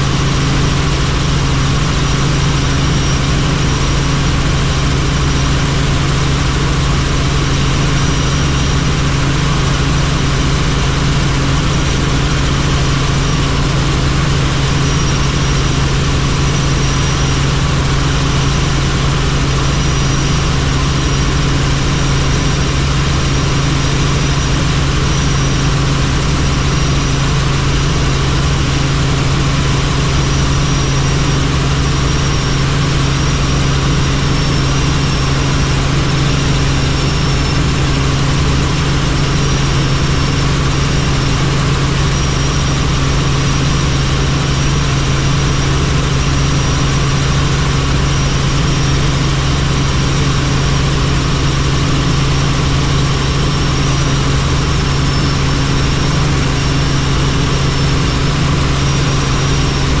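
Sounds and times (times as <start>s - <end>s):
faint high whine: 0.0s - 60.0s
helicopter rotor and turbine noise: 0.0s - 60.0s.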